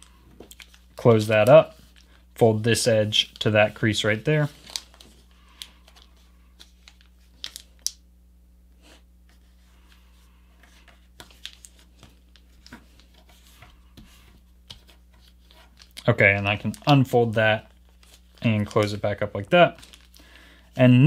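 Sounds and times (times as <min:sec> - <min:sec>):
paper folding and creasing: 0:00.4 - 0:07.9, 0:09.3 - 0:19.0, 0:19.7 - 0:20.2.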